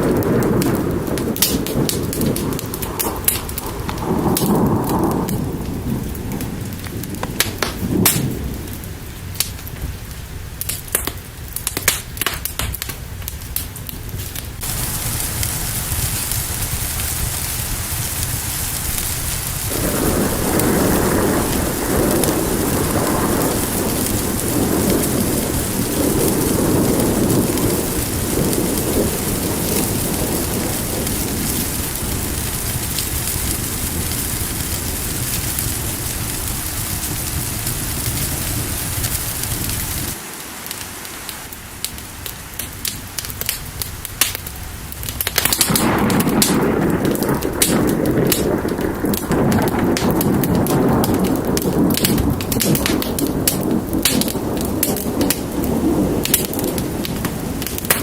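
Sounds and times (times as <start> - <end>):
low rumbles: 0.0 - 40.2, 41.5 - 58.0
rolling thunder: 0.0 - 40.2, 42.0 - 58.0
fire crackling: 0.0 - 58.0
heavy rain: 0.0 - 58.0.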